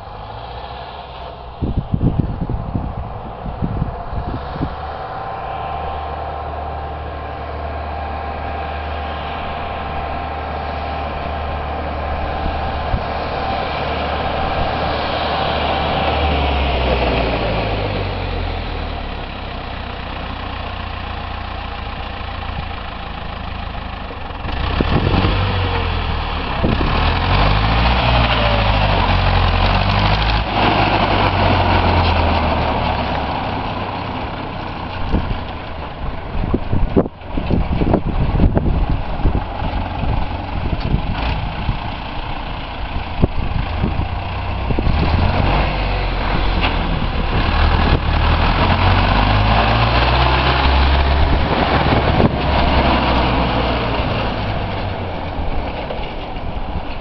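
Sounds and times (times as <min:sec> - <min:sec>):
tractor diesel engine driving by: 0:00.0 - 0:57.0.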